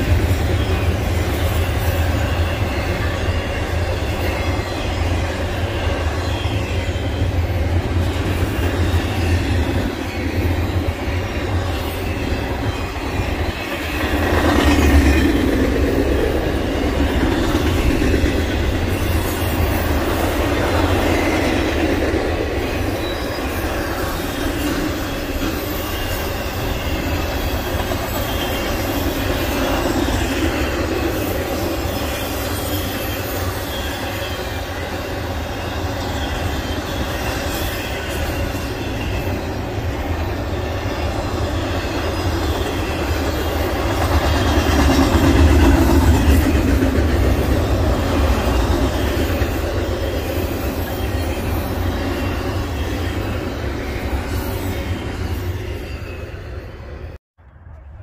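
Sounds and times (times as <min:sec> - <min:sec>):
freight train wheels on track: 0:00.0 - 0:58.0.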